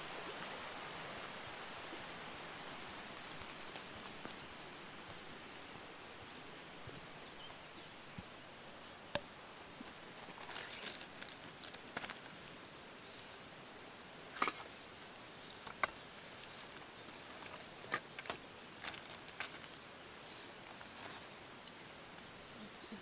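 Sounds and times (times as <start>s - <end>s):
rain pattering in woods: 0.0s - 23.0s.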